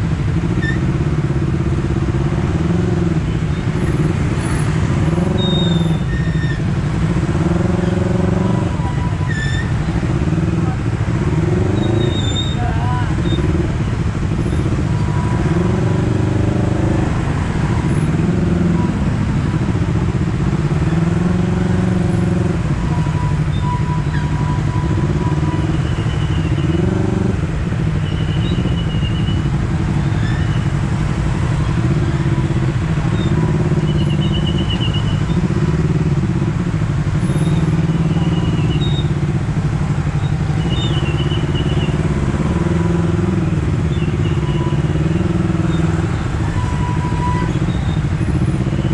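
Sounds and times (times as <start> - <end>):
motorcycle engine and exhaust: 0.0 - 48.9
wind and road noise: 0.0 - 48.9.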